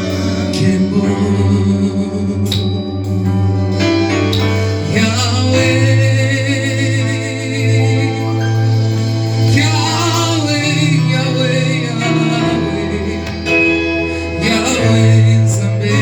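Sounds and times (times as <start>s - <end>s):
gospel singing: 0.0s - 2.8s, 3.8s - 16.0s
guitar: 0.0s - 16.0s
sustained bass line: 0.0s - 16.0s.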